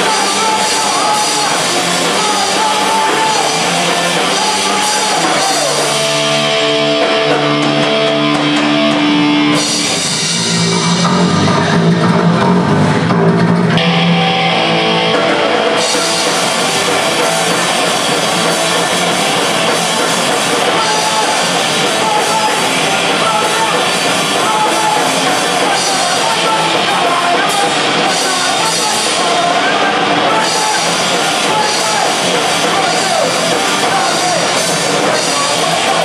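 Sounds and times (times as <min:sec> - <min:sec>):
drum kit: 0:00.0 - 0:36.0
electric guitars: 0:00.0 - 0:36.0.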